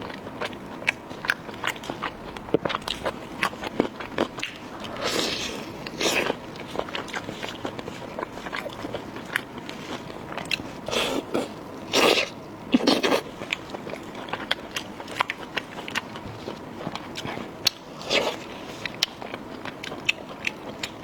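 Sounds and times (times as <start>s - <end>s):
close chewing and biting: 0.0s - 21.0s.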